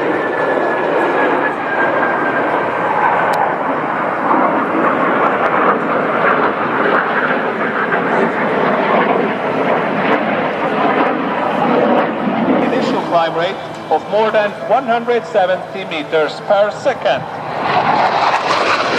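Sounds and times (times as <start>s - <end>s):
loud jet engine noise: 0.0s - 18.9s.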